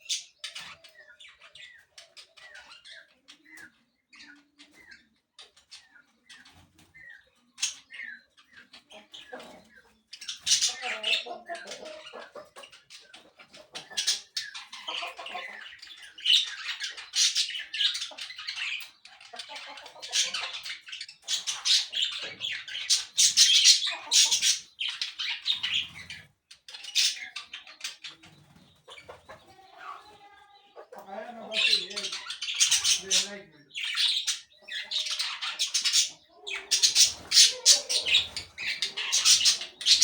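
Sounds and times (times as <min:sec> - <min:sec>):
parakeets chirping and squawking: 0:00.0 - 0:40.0.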